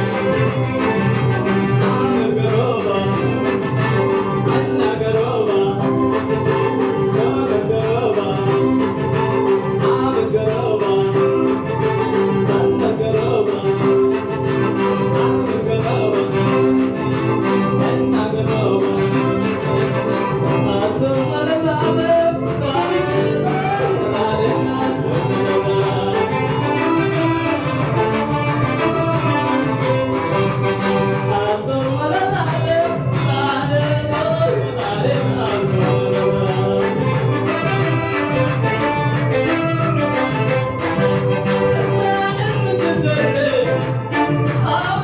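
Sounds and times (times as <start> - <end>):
amplified band music: 0.0 - 45.0
man singing into a microphone: 0.0 - 45.0.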